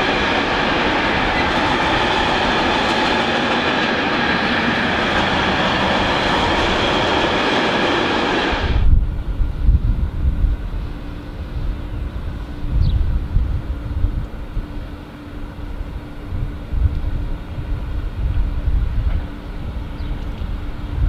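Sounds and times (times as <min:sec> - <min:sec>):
freight train rolling on rails: 0:00.0 - 0:21.0
wind on microphone: 0:00.0 - 0:21.0.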